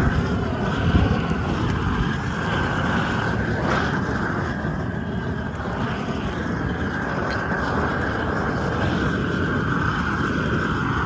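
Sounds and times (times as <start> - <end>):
weed torch flame rushing: 0.0 - 11.0.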